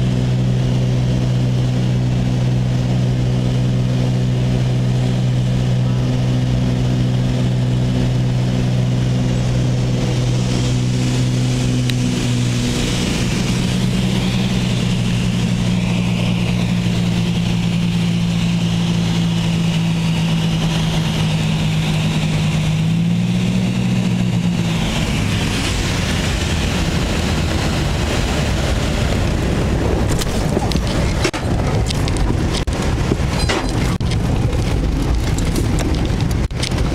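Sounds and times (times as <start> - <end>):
aircraft rolling on runway rumble: 0.0 - 36.9
propeller aircraft engines droning: 0.0 - 36.9.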